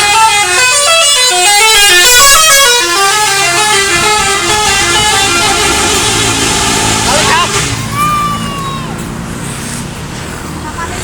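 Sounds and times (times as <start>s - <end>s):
bus musical horn playing a tune: 0.0s - 9.6s.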